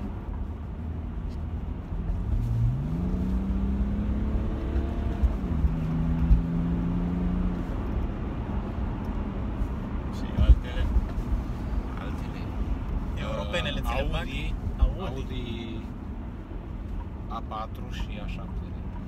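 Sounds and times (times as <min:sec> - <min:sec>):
car engine accelerating: 0:00.0 - 0:19.0
road rumble inside car: 0:00.0 - 0:19.0.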